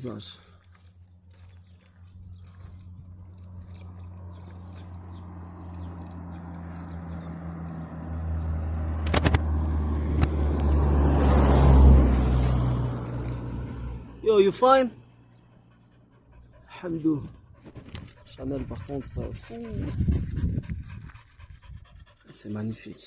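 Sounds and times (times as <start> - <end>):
vehicle engine hum passing by: 1.0 - 22.9.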